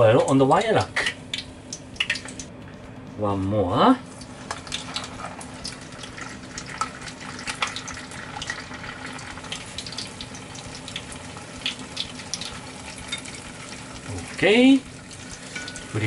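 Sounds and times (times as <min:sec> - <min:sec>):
deep-frying sizzle with pops: 0:00.0 - 0:16.0.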